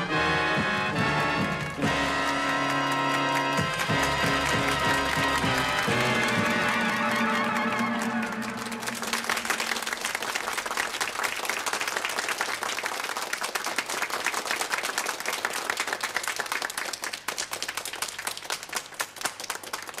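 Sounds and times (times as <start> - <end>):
audience applause: 0.0 - 20.0.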